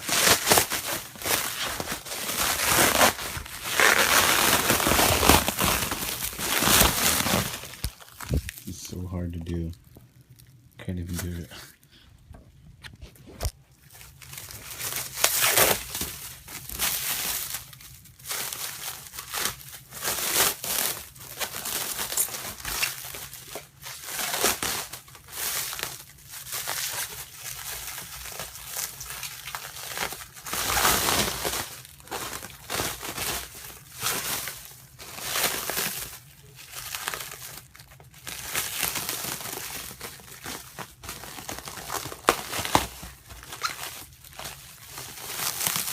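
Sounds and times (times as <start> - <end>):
packaging crinkling and tearing: 0.0 - 11.8, 12.9 - 45.9.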